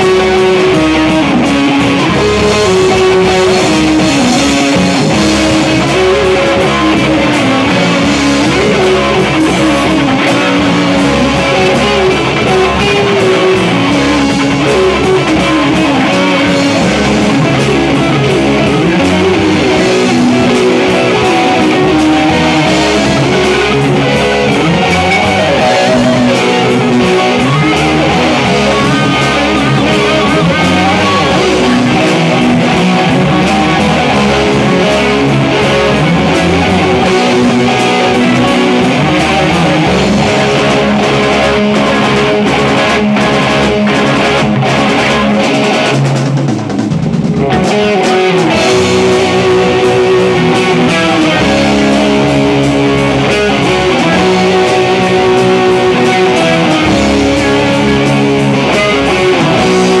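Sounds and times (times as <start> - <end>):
guitar-led music with drums: 0.0 - 60.0.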